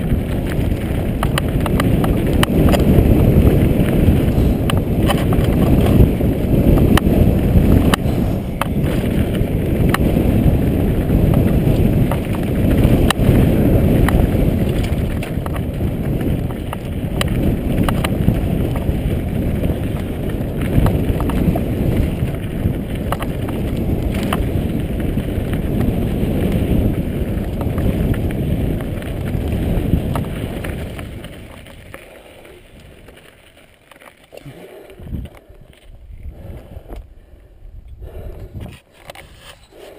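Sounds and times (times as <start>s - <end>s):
stones and bike rattling: 0.0s - 37.2s, 38.3s - 39.9s
wind and tyre noise: 0.0s - 39.9s.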